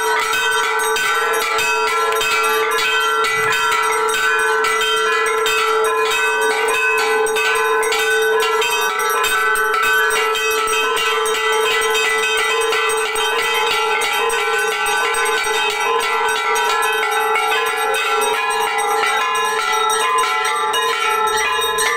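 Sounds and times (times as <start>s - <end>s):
bells clanging rapidly: 0.0s - 21.9s.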